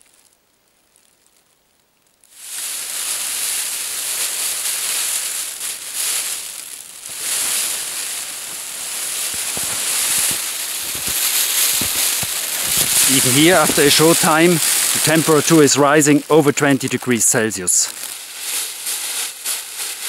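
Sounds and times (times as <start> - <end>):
foil blanket crinkling: 0.0 - 20.0.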